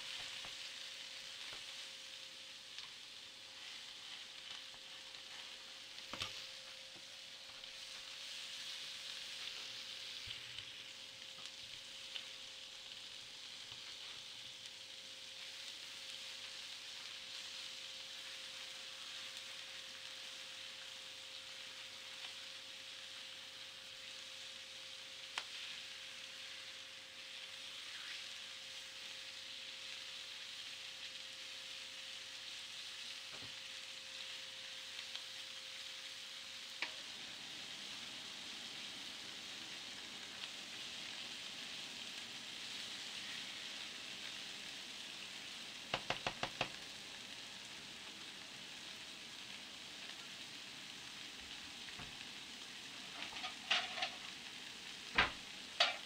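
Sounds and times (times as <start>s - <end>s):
faint steady hum: 0.0s - 56.0s
room tone hiss: 0.0s - 56.0s.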